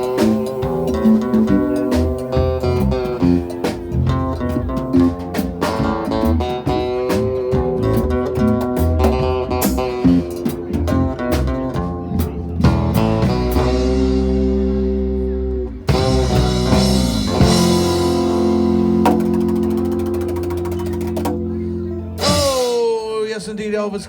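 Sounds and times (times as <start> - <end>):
picked guitar riff: 0.0 - 22.8
live rock band playing: 0.0 - 23.1.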